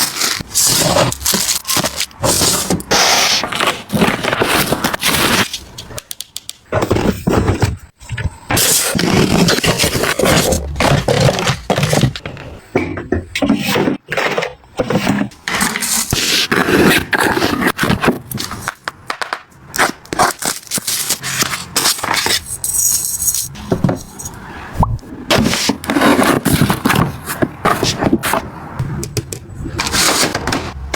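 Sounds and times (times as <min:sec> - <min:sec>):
household items scraping and knocking: 0:00.0 - 0:19.2, 0:19.8 - 0:30.9.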